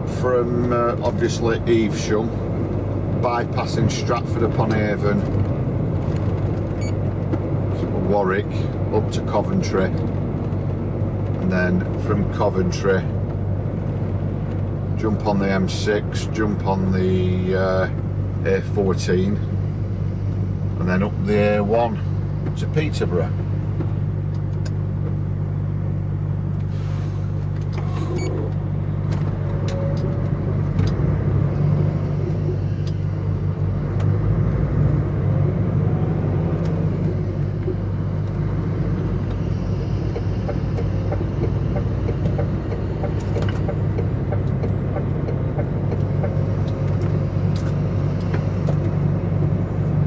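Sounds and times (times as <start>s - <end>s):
road noise: 0.0s - 50.0s
truck diesel engine drone: 0.0s - 50.0s.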